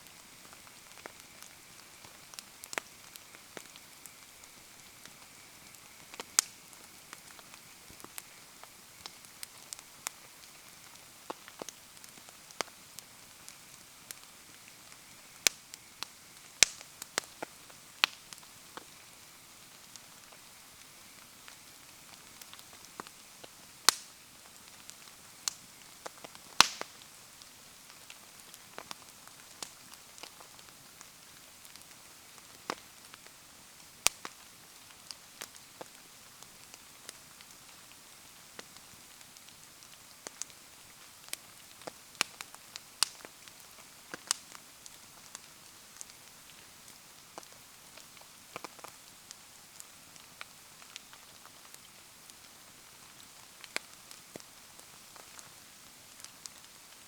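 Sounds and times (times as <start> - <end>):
falling rain hiss: 0.0 - 57.0
wood fire crackling: 0.0 - 57.0.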